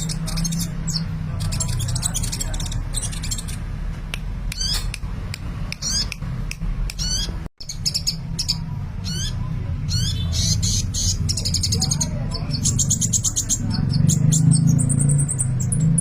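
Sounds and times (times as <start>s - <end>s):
bird chirping rapidly: 0.0s - 3.8s, 4.4s - 5.0s, 5.7s - 16.0s.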